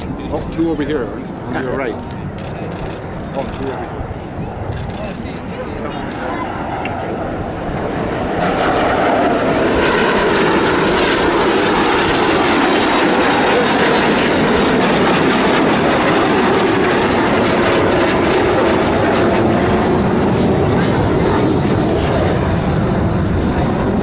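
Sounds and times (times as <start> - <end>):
jet engines roaring overhead: 0.0 - 24.0.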